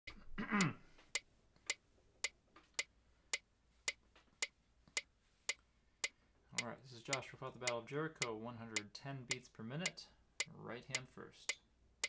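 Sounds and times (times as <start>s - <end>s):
metronome clicking: 0.1s - 11.6s.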